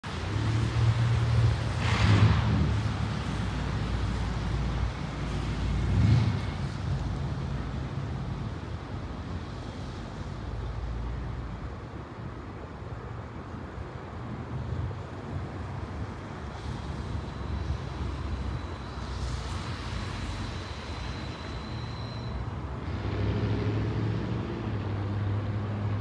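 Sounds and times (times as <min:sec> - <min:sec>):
distant diesel locomotive rumble: 0:00.0 - 0:26.0.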